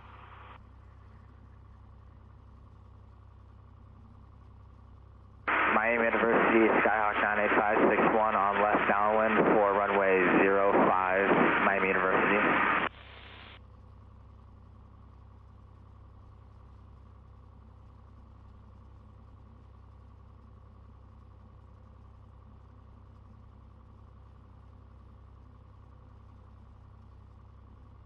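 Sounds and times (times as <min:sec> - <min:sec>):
aircraft engine low drone: 0:00.0 - 0:28.0.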